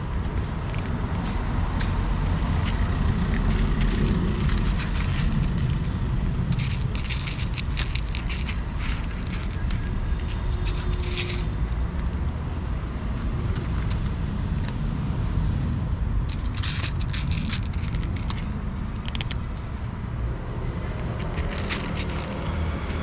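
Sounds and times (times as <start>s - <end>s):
cats crunching dry kibble: 0.0s - 12.3s, 13.1s - 15.0s, 16.2s - 23.0s.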